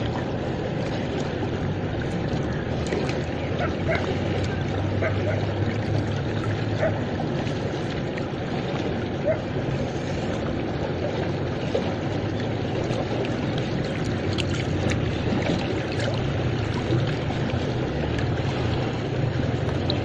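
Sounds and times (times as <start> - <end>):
river water rushing and lapping: 0.0 - 20.0
small splashes: 0.0 - 20.0.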